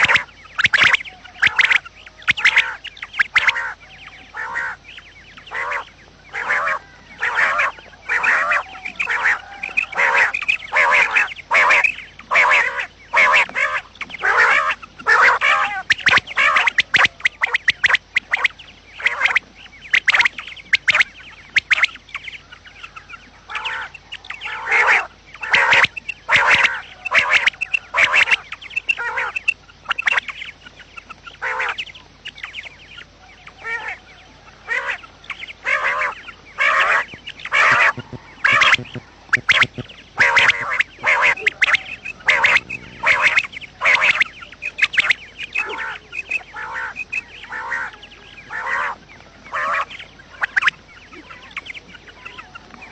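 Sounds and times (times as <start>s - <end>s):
quail calling: 0.0s - 52.9s.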